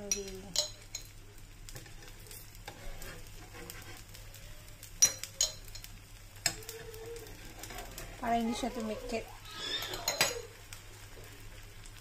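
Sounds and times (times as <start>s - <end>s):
batter sizzling in a pan: 0.0s - 12.0s.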